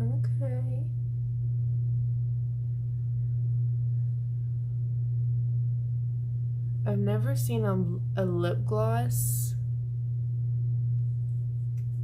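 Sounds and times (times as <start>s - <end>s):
low electrical mains hum: 0.0s - 12.0s.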